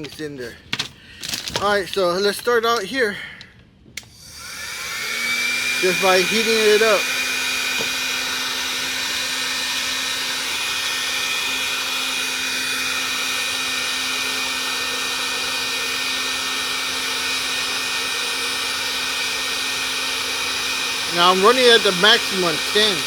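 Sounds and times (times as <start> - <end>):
heat gun blower hum: 4.0 - 23.0.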